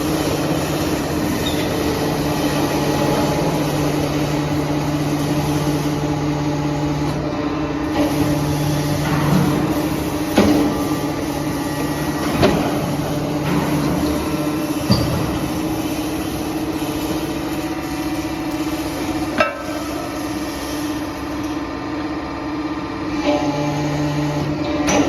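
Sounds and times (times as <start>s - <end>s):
hydraulic power unit humming: 0.0s - 25.0s.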